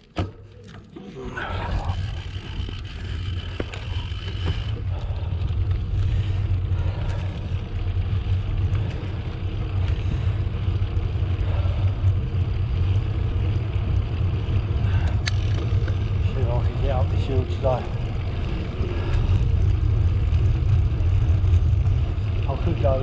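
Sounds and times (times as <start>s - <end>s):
wind and tyre noise: 1.1s - 23.0s.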